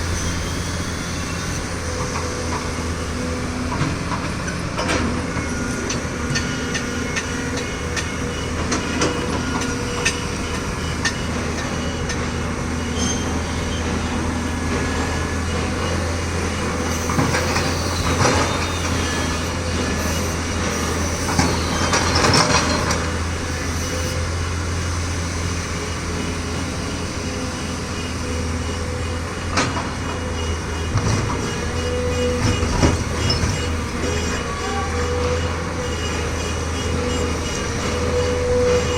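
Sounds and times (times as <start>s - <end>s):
heavy machinery engine rumble: 0.0s - 38.9s
high squeals: 0.0s - 38.9s.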